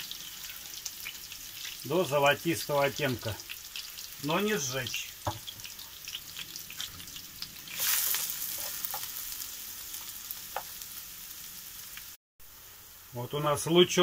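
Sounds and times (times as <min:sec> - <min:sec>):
onions sizzling in frying pan: 0:00.0 - 0:14.0.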